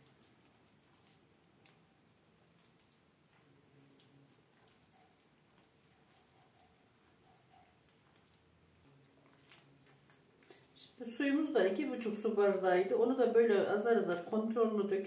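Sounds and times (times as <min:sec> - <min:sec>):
hands working dough in a bowl: 0:00.0 - 0:15.0.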